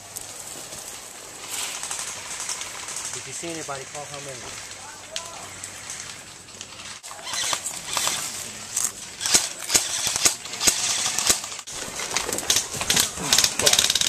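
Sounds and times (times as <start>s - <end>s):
rustling hiss: 0.0s - 14.0s.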